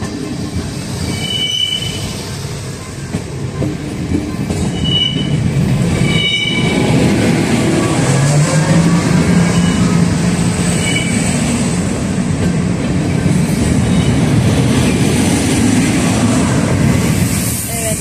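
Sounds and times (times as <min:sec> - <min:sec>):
train rumbling over track: 0:00.0 - 0:18.0.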